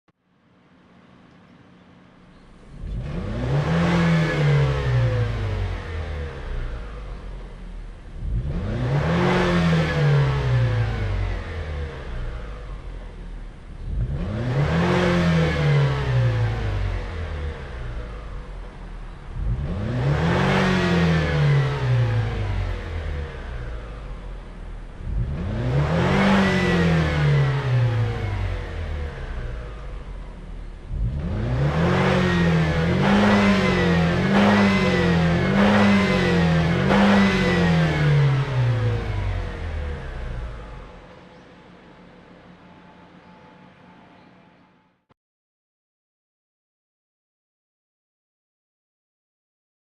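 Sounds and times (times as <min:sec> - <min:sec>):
car engine revving: 0:02.5 - 0:44.0.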